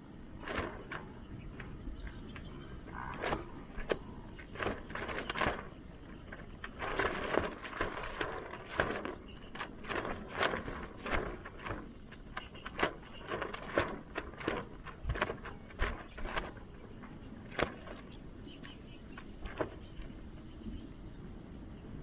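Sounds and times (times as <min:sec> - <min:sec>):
scraping: 0:00.0 - 0:20.5.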